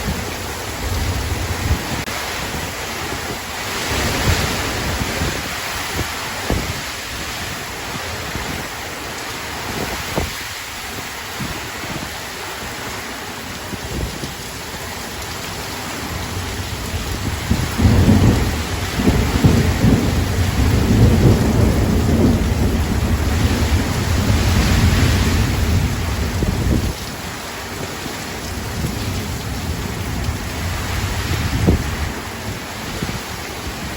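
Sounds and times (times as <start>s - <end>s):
storm wind gusting with rain: 0.0s - 33.9s
wind buffeting microphone: 0.0s - 33.9s.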